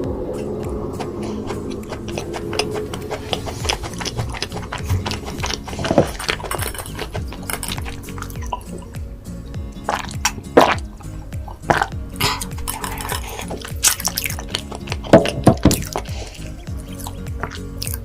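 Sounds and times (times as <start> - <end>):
chewing and crunching food: 0.0 - 18.0.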